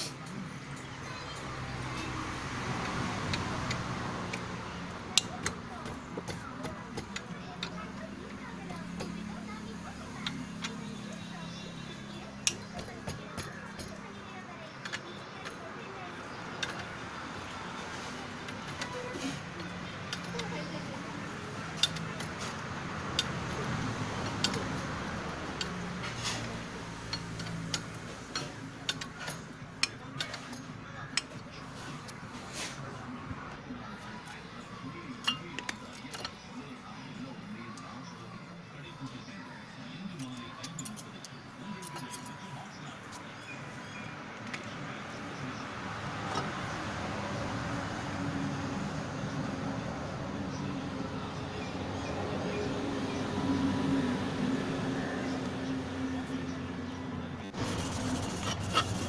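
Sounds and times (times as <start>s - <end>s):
steady background noise: 0.0s - 59.0s
vehicle rumble with road noise: 0.0s - 59.0s.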